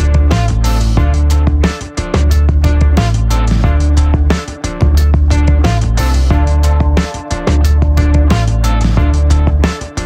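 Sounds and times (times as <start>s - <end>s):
upbeat music with deep bass: 0.0s - 10.0s.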